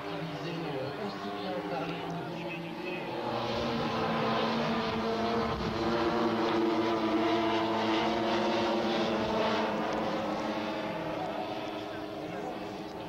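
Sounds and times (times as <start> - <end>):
model aircraft engines droning: 0.0 - 13.0.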